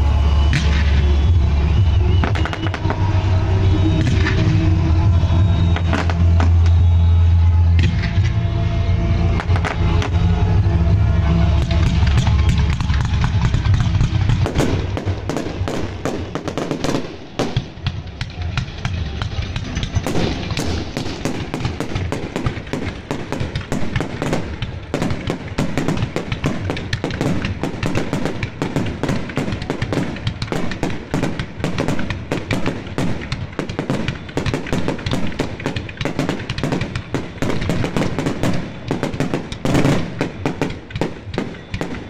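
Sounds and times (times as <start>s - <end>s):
fireworks booming and crackling: 0.0s - 42.0s.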